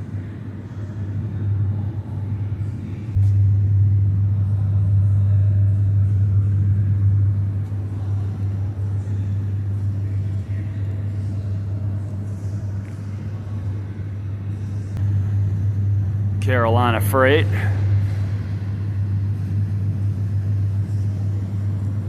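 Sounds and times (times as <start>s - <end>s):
low rumble: 0.1s - 22.0s.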